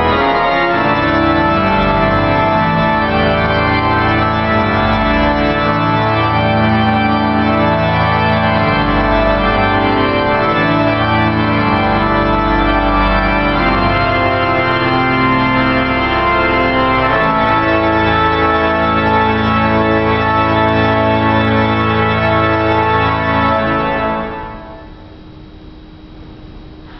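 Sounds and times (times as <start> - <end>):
pipe organ chords: 0.0 - 26.9.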